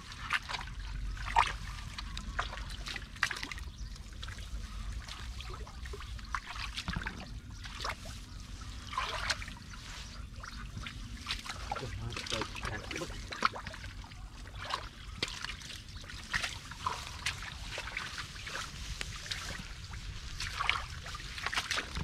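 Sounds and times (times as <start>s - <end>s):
steady low rumble: 0.0s - 22.0s
water trickling and splashing: 0.0s - 22.0s.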